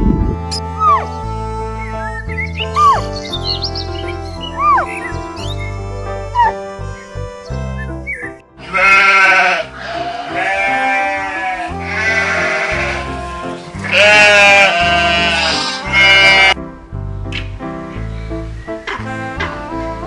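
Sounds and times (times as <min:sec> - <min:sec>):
background music: 0:00.0 - 0:20.0
farm animal bleating: 0:00.5 - 0:16.6.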